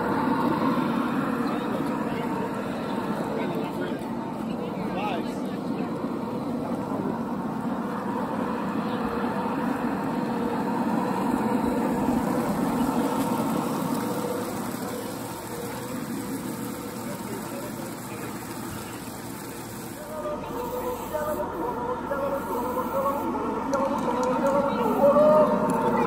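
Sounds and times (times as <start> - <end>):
faint motor hum: 0.0 - 26.0
model train wheels on rail: 0.0 - 26.0.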